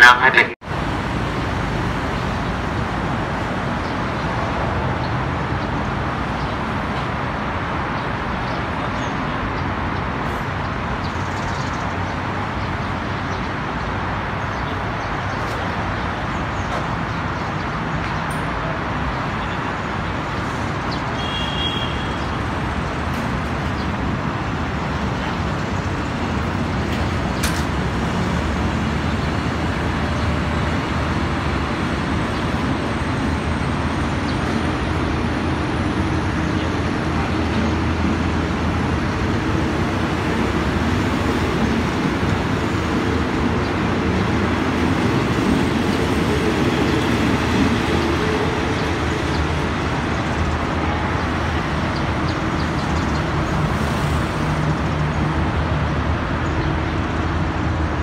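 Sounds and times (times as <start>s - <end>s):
train wheels rumbling on rail: 0.6s - 58.0s.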